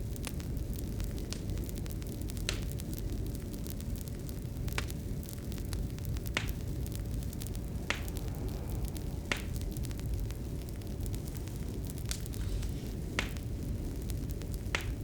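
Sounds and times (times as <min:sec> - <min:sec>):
fireplace fire crackling: 0:00.0 - 0:15.0
sharp fire pops: 0:00.0 - 0:15.0.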